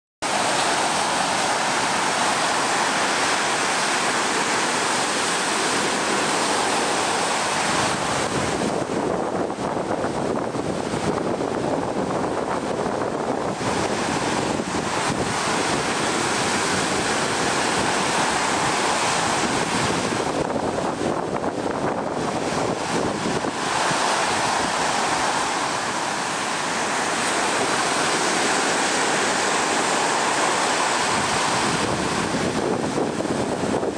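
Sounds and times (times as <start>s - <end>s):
ocean surf on beach: 0.2s - 33.9s.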